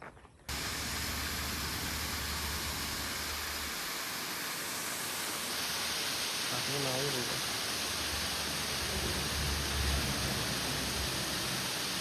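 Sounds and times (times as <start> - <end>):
waterfall rushing: 0.5 - 12.0.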